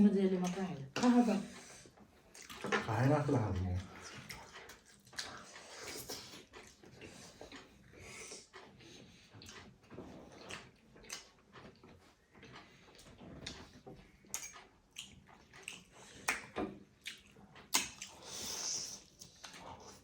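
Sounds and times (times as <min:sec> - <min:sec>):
chewing: 0:00.3 - 0:20.0.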